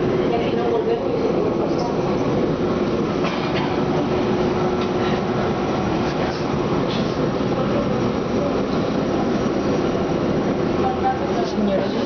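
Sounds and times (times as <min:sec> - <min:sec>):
constant low hum: 0:00.0 - 0:12.0
train rumbling on rails: 0:00.0 - 0:12.0.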